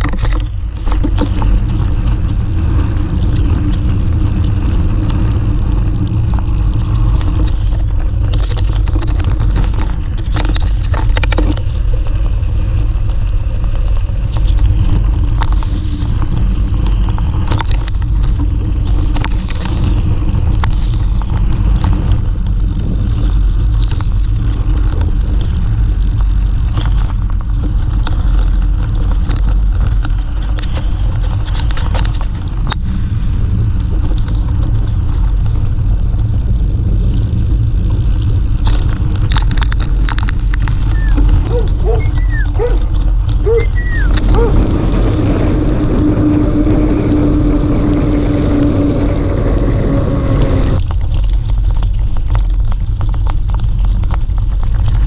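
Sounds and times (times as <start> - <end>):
bike tyres rumbling over stones: 0.0 - 55.0
steady hum: 0.0 - 55.0
wind rushing over microphone: 0.0 - 55.0.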